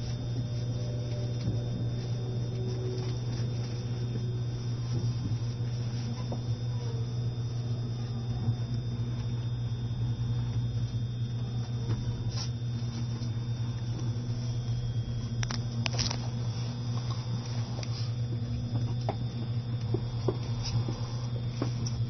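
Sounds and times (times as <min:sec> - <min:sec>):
train carriage hum: 0:00.0 - 0:22.0.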